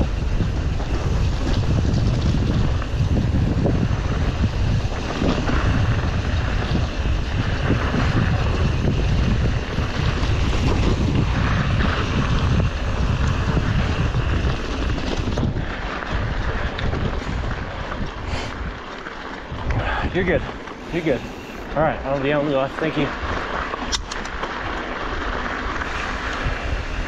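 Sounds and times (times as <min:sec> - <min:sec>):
bike rumbling on rough trail: 0:00.0 - 0:27.0
wind buffeting microphone: 0:00.0 - 0:27.0.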